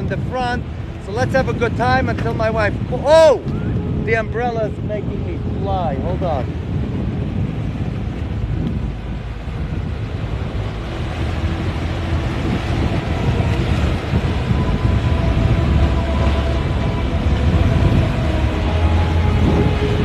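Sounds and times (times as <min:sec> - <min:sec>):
low rumble of boat engines: 0:00.0 - 0:20.0
wind buffeting microphone: 0:00.0 - 0:20.0.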